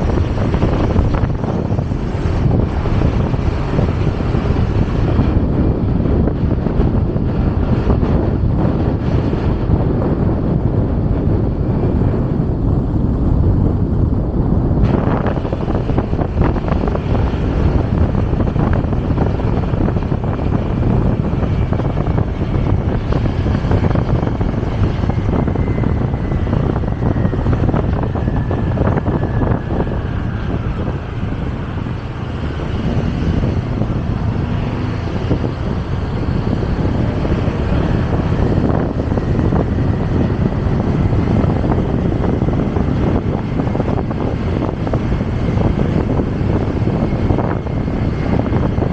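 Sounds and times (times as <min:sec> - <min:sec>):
motorcycle engine: 0:00.0 - 0:48.9
wind rush on microphone: 0:00.0 - 0:48.9.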